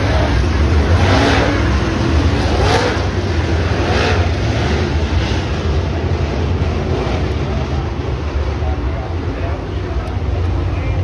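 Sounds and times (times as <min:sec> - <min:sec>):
race car engines rumbling: 0:00.0 - 0:11.0.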